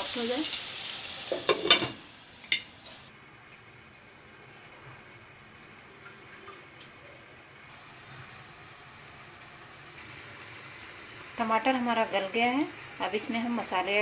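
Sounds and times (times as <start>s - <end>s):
sauce simmering in a pan: 0.2s - 14.0s.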